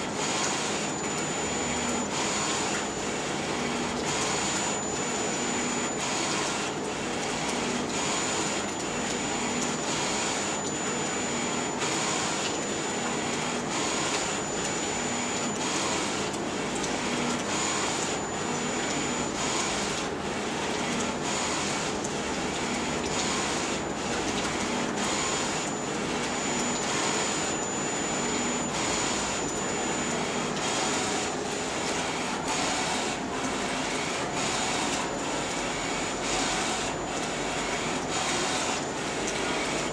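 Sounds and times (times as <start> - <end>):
printer whir: 0.0 - 39.9.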